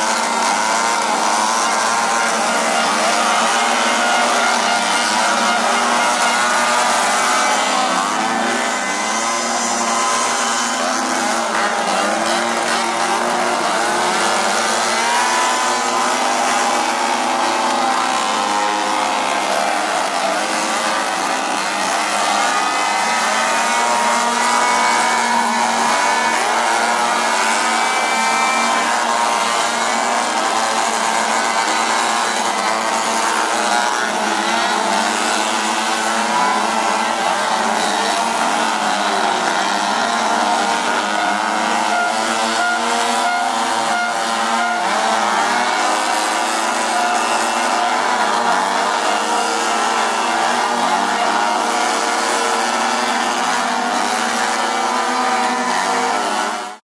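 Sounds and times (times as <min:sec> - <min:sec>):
chainsaws revving: 0:00.0 - 0:56.8.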